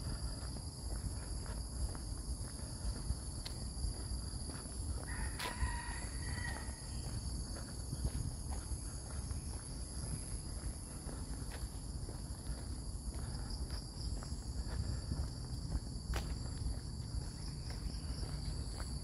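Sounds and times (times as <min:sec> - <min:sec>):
footsteps on a trail: 0:00.0 - 0:19.0.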